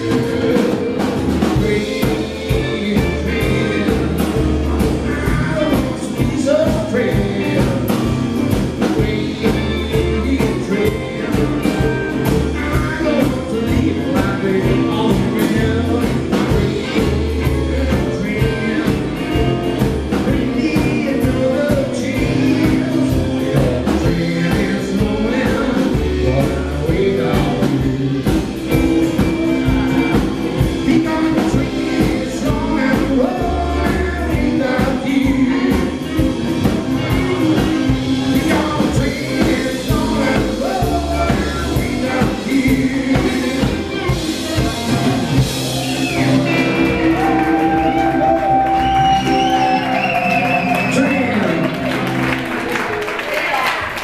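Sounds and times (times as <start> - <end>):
man singing: 0.0 - 52.2
acoustic guitar: 0.0 - 53.1
drums: 0.0 - 54.0
electric guitar: 0.0 - 54.0
upright double bass: 0.0 - 54.0.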